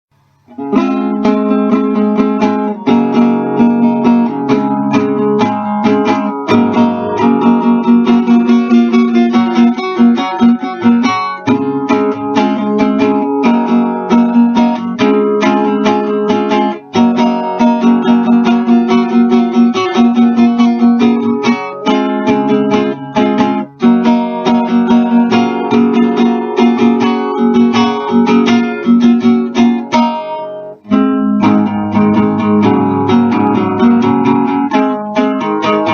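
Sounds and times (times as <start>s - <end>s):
acoustic guitar playing: 0.1s - 35.9s.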